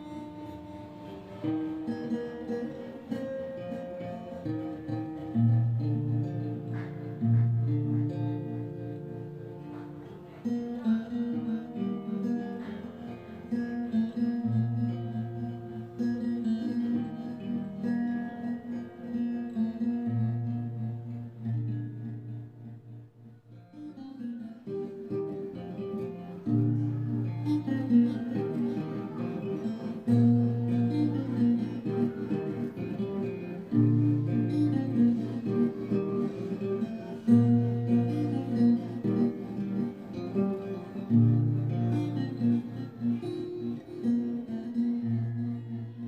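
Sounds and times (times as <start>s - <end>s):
acoustic guitar chords: 0.0s - 46.0s.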